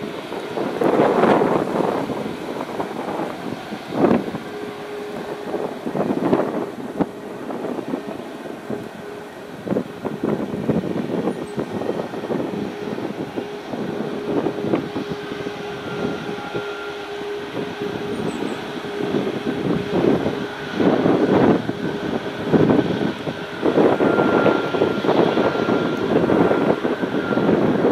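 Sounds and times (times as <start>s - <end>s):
jet engines whining: 0.0s - 27.9s.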